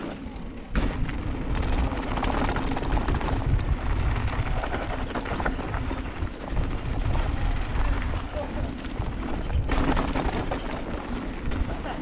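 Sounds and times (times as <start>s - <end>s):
bike rattling over bumps: 0.0s - 12.0s
tyres rumbling over dirt and rocks: 0.0s - 12.0s
wind rumble on microphone: 0.6s - 12.0s.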